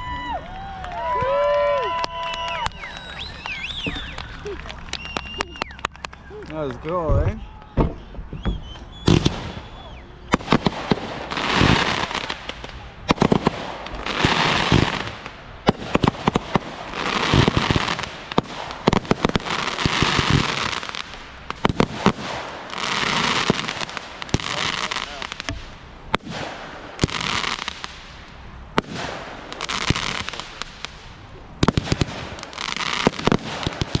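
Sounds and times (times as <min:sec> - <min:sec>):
firework whistle: 0:00.0 - 0:06.6, 0:07.4 - 0:25.5, 0:26.2 - 0:34.0
crackling firework shower: 0:00.0 - 0:34.0
firework bangs: 0:00.0 - 0:34.0.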